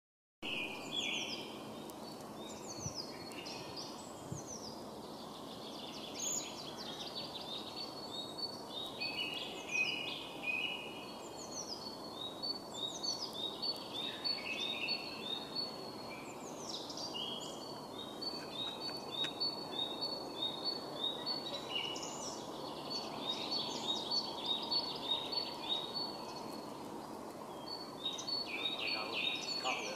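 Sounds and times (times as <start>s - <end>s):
low rushing background noise: 0.4s - 29.9s
songbirds singing: 0.4s - 29.9s.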